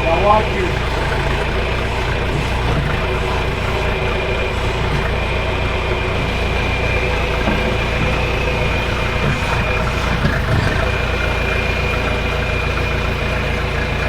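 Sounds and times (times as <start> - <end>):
backhoe engine running: 0.0 - 14.0.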